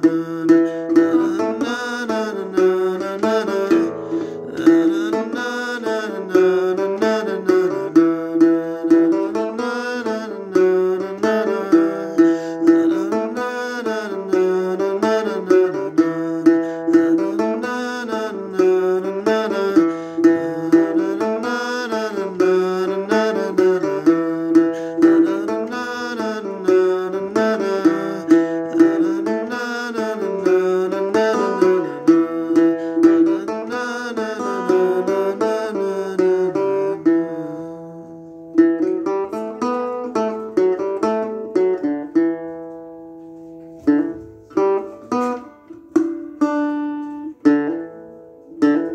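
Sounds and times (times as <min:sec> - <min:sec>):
acoustic guitar instrumental: 0:00.0 - 0:48.9.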